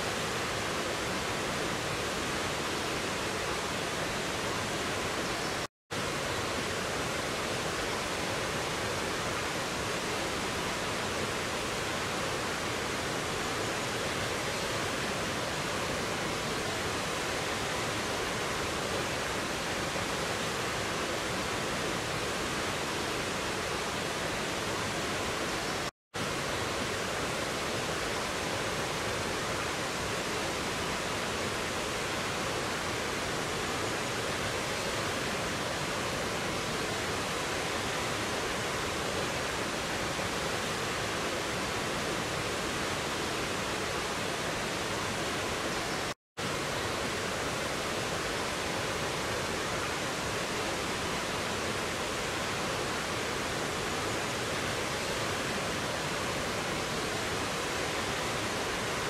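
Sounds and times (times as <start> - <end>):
stream rushing over cascades: 0.0 - 59.0.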